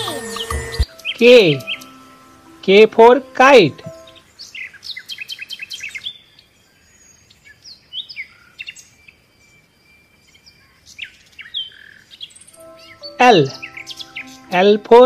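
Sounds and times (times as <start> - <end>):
songbirds chirping: 0.1 - 15.0.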